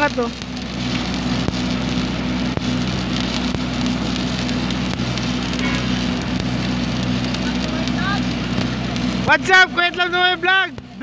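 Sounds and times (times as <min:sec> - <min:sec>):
low hum: 0:00.0 - 0:11.0
welding arc crackling: 0:00.0 - 0:11.0.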